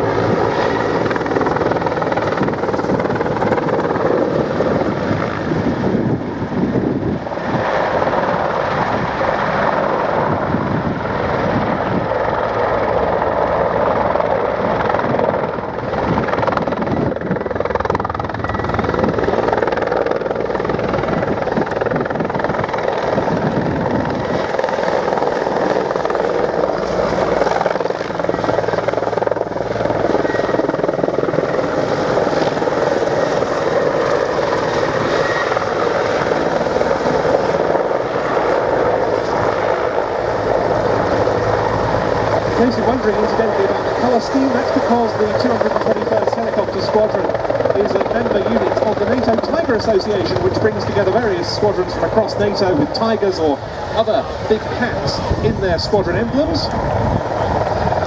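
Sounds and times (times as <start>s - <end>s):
helicopter rotor and engines: 0.0s - 58.0s.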